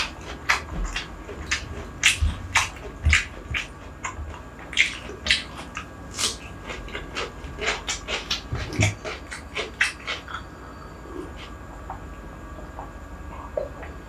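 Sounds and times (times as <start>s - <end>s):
man chewing rice: 0.0s - 14.0s.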